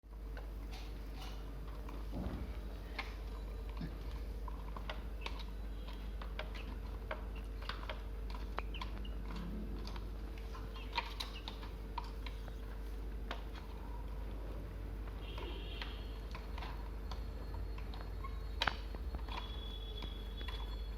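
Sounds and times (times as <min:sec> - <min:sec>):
chicks pecking at feed: 0:00.1 - 0:20.9.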